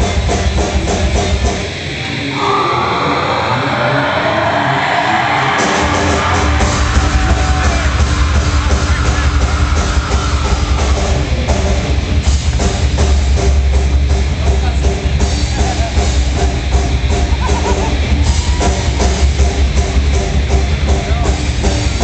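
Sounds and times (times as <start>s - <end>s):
loud rock music: 0.0s - 22.0s.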